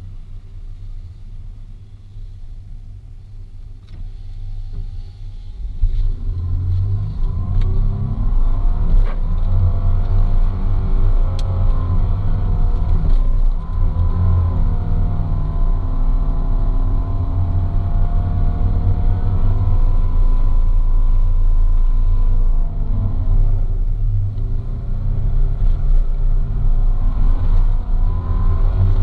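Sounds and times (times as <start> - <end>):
car engine under load: 0.0 - 29.0.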